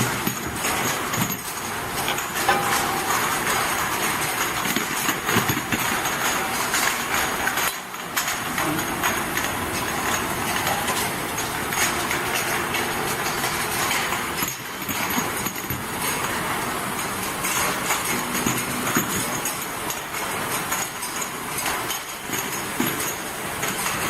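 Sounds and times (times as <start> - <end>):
washing machine clicking and rattling: 0.0 - 24.0.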